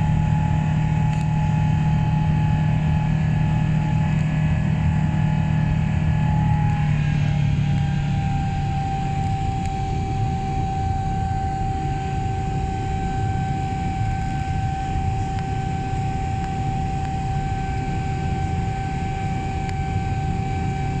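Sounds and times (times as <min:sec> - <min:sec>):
jet engines on takeoff: 0:00.0 - 0:21.0.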